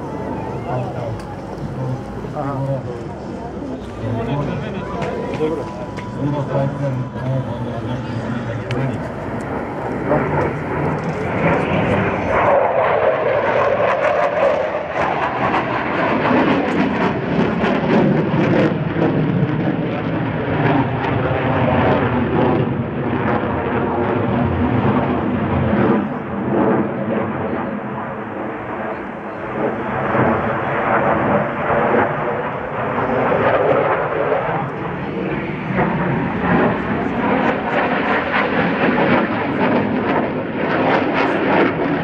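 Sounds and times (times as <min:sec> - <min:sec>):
fighter jet flying overhead: 0:00.0 - 0:42.0.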